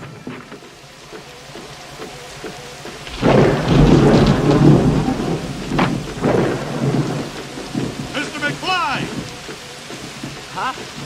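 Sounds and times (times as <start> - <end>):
rain falling: 0.0 - 11.0
rolling thunder rumble: 0.0 - 11.0.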